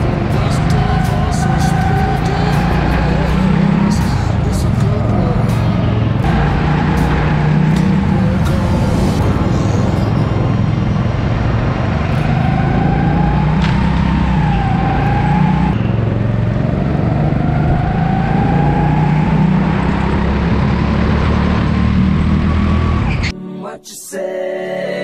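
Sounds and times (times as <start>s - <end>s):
go-kart tyres rumbling: 0.0s - 23.3s.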